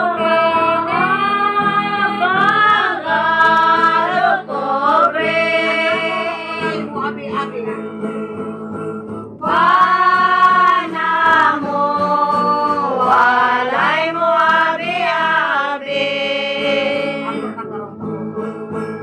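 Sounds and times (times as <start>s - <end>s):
person singing: 0.0s - 18.0s
acoustic guitar: 0.0s - 19.0s.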